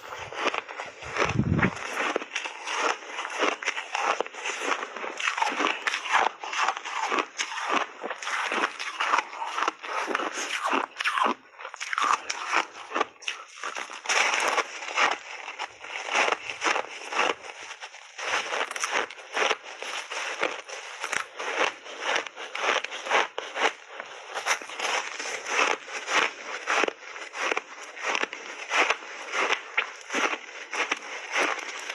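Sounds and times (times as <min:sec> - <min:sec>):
chewing crunchy ice: 0:00.0 - 0:31.9.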